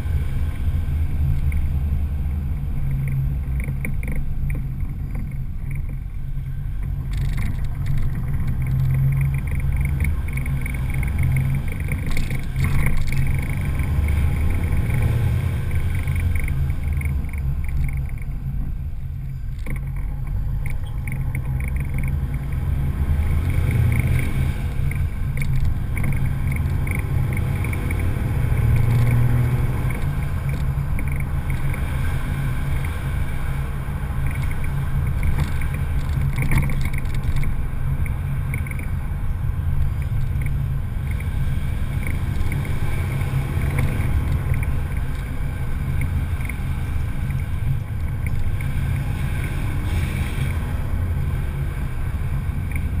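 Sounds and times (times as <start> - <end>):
diesel truck engine rumble: 0.0 - 53.0
road and wind noise: 0.0 - 53.0.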